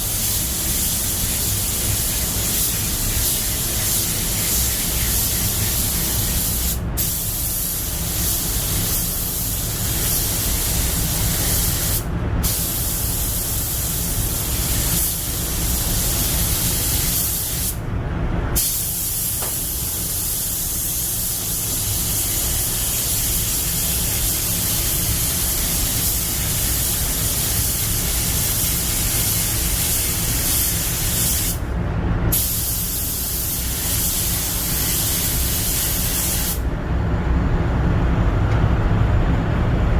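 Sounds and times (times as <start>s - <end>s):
paint spray gun hissing: 0.0s - 17.8s, 18.6s - 31.6s, 32.4s - 36.6s
steady low rumble: 0.0s - 39.9s.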